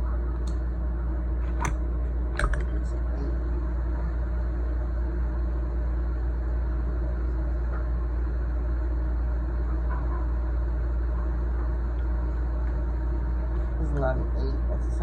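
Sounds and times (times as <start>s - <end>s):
low hum: 0.0s - 15.0s
low steady rumble: 0.0s - 15.0s.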